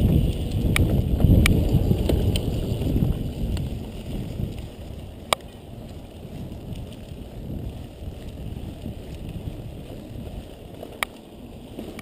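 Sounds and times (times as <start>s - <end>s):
wind on microphone: 0.0s - 11.0s
bike tyres rumbling on dirt: 0.0s - 12.0s.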